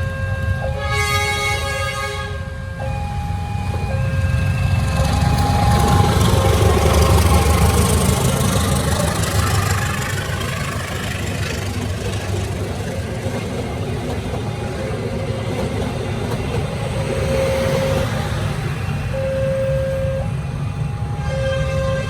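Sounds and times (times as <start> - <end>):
road traffic engines idling: 0.0 - 21.8.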